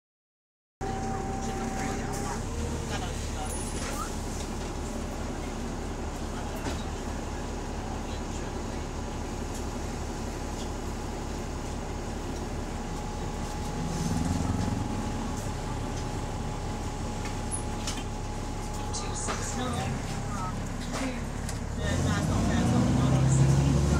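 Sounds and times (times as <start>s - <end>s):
bus diesel engine running: 0.8s - 23.9s.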